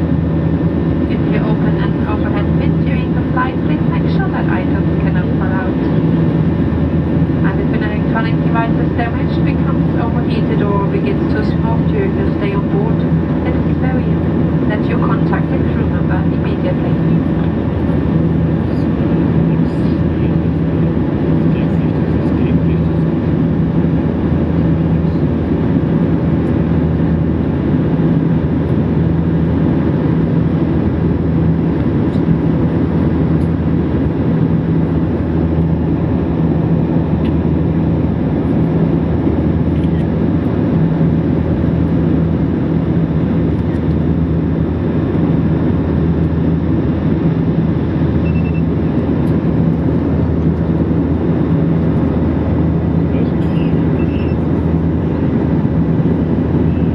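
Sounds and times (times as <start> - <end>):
airliner cabin drone: 0.0 - 56.9.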